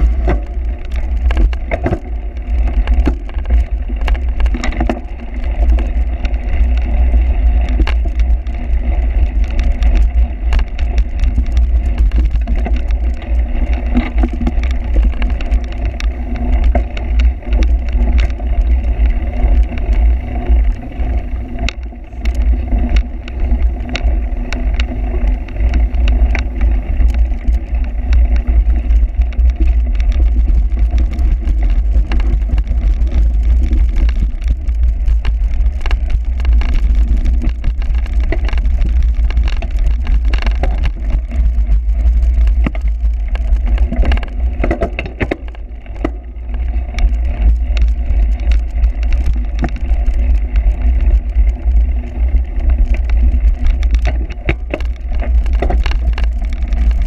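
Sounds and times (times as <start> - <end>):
bike clicks and rattles: 0.0 - 57.0
wind rumble on microphone: 0.0 - 57.0.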